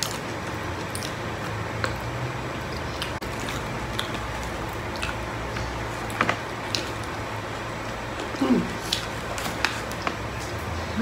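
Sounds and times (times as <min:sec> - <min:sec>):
people chewing food: 0:00.0 - 0:11.0
steady low hum: 0:00.0 - 0:11.0.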